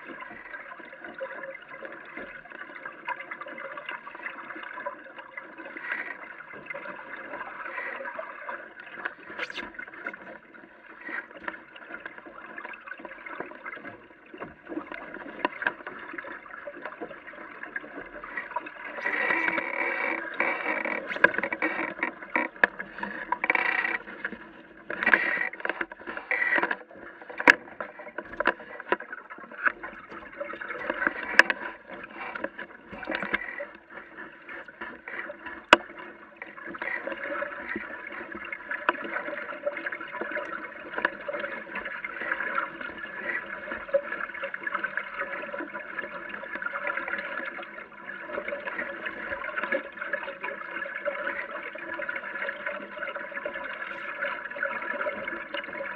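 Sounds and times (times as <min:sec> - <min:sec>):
water lapping against boat hull: 0:00.0 - 0:55.9.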